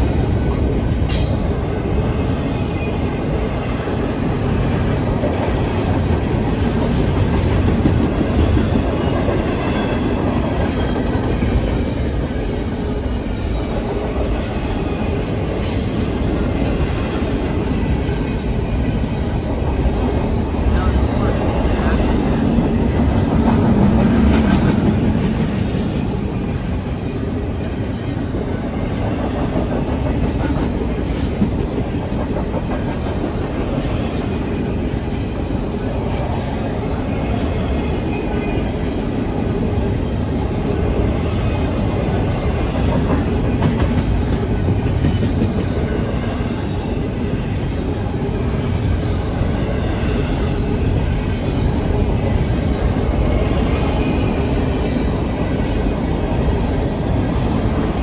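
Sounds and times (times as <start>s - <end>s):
clickety-clack of rail joints: 0.0s - 58.0s
train wheels rumbling on rails: 0.0s - 58.0s.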